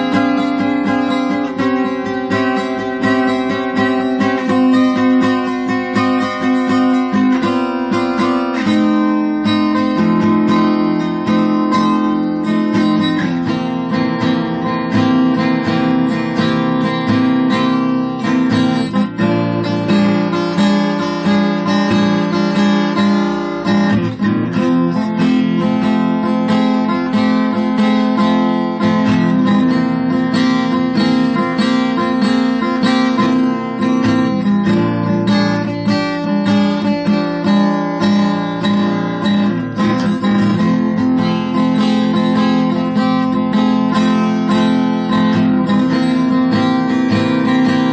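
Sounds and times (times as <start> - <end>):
blues guitar strumming and picking: 0.0 - 47.9.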